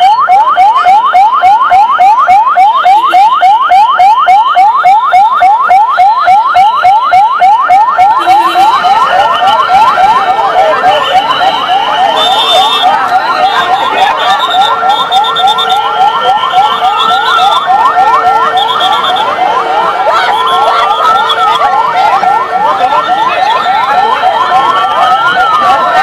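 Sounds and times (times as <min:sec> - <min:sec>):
siren fast yelp: 0:00.0 - 0:26.0
siren wailing: 0:00.0 - 0:26.0
steady high siren tone: 0:00.0 - 0:26.0.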